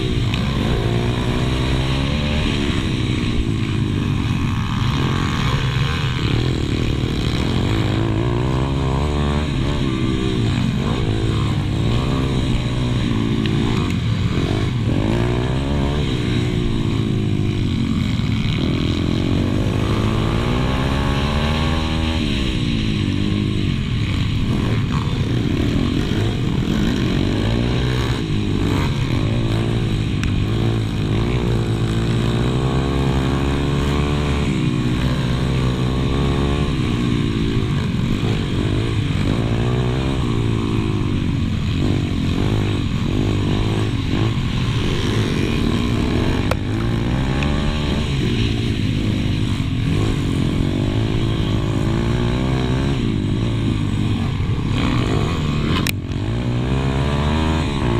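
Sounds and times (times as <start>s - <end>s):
motorbike engine revving: 0.0s - 57.9s.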